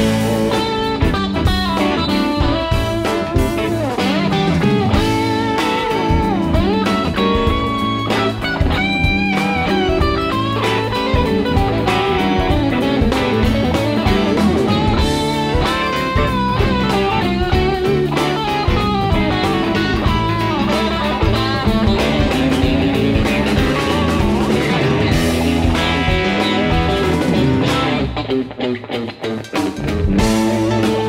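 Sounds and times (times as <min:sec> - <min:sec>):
electric guitar lead: 0:00.0 - 0:31.0
rock band playing: 0:00.0 - 0:31.0.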